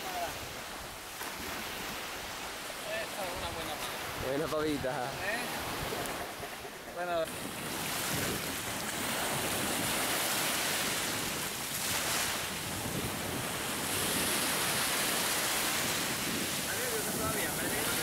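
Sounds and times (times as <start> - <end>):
small waves breaking on sand: 0.0 - 18.0.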